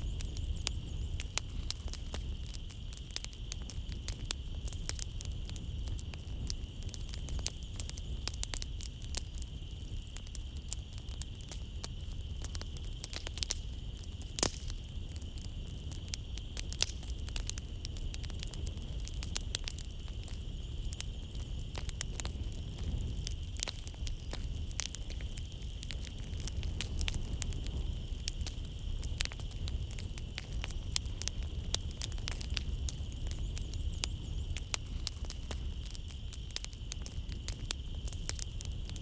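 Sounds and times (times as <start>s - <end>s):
night insects chirring: 0.0s - 39.0s
wood fire crackling and popping: 0.0s - 39.0s.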